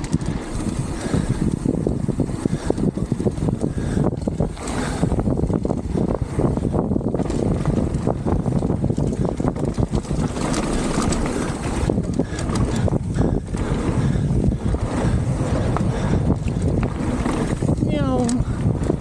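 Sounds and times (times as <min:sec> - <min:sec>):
bike clicks and knocks: 0:00.0 - 0:19.0
bike tyres crunching on gravel: 0:00.0 - 0:19.0
wind buffeting microphone: 0:00.0 - 0:19.0.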